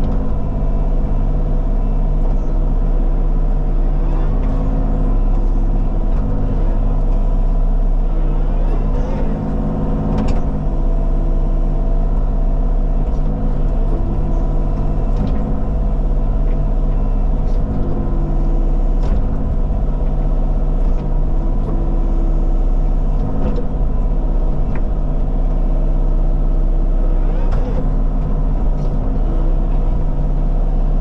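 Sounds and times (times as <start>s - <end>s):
diesel engine under load: 0.0s - 31.0s.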